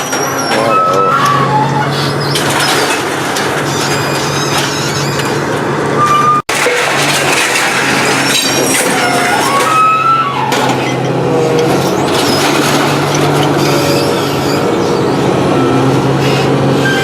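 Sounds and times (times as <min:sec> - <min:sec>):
high squealing whines: 0:00.0 - 0:03.0, 0:03.6 - 0:06.5, 0:08.0 - 0:17.0
machinery engine hum: 0:00.0 - 0:17.0.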